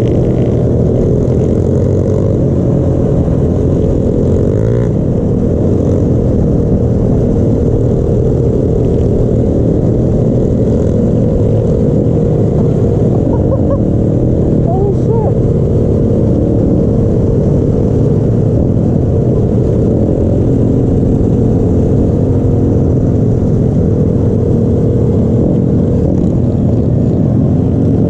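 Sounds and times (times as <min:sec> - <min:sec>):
motorbike engines rumbling: 0:00.0 - 0:28.0.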